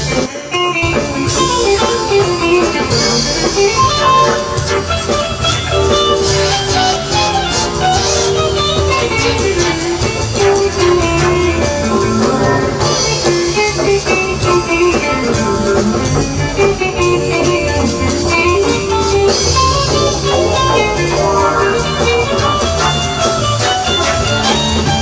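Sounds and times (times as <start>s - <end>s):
drum kit with cymbals: 0.0s - 25.0s
electric bass: 0.0s - 25.0s
electric guitar running quick lines: 0.0s - 25.0s.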